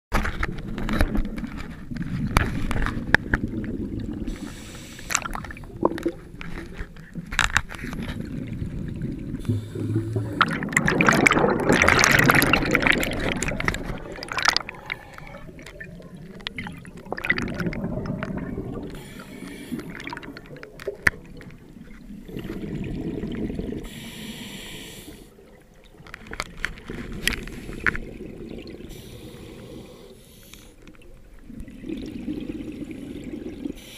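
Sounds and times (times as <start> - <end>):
exhaled bubbles gurgling underwater: 0.4 - 33.9.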